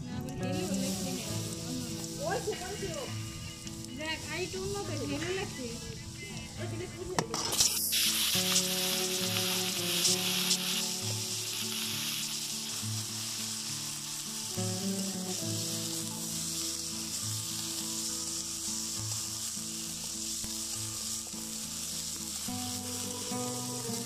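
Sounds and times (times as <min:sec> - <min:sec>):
vegetables sizzling in hot oil: 0:00.4 - 0:24.0.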